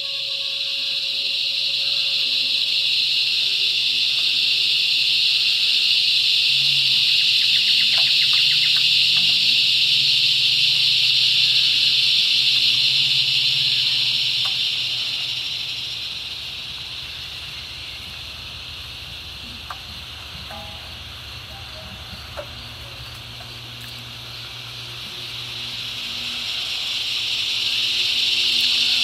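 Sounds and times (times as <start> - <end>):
cicadas buzzing drone: 0.0 - 29.0.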